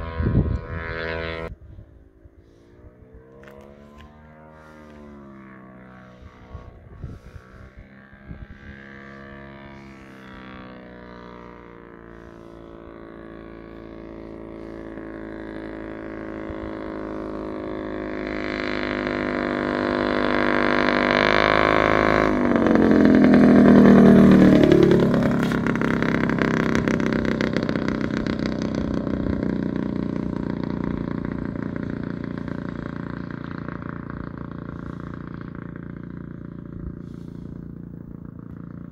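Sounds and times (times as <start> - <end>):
light aircraft passing: 0.0 - 38.9.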